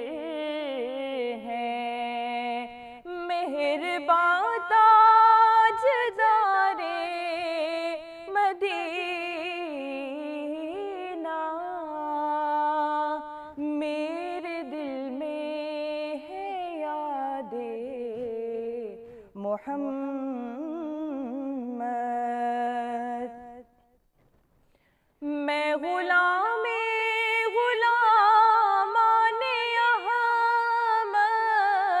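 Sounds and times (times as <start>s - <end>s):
woman singing: 0.0s - 23.8s, 25.2s - 32.0s.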